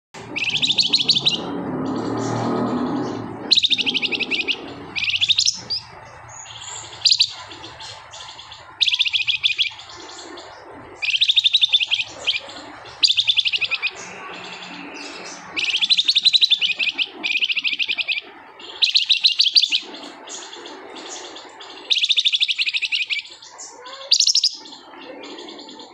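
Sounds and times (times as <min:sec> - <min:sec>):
bird singing rapid rattling notes: 0:00.2 - 0:25.9.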